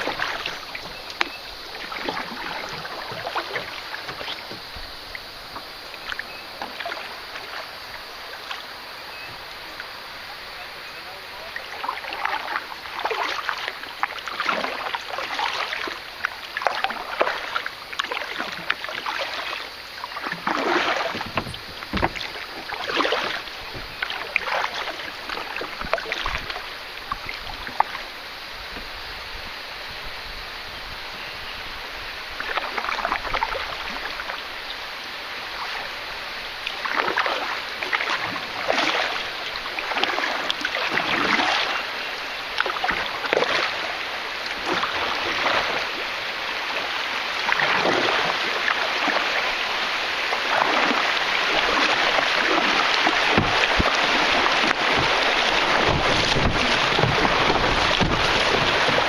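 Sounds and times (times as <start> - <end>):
paddle splashing in water: 0.0 - 59.0
rushing water: 0.0 - 59.0.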